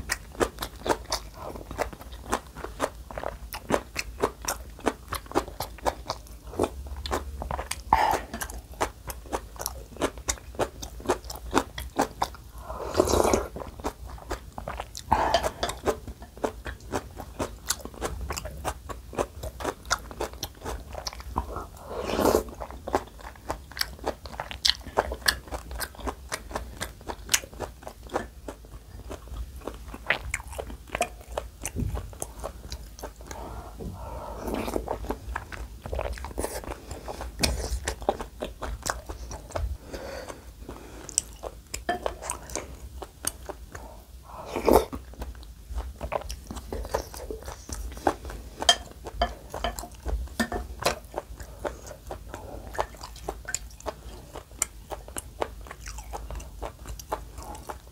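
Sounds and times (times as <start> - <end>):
wet chewing and mouth clicks: 0.0 - 57.9.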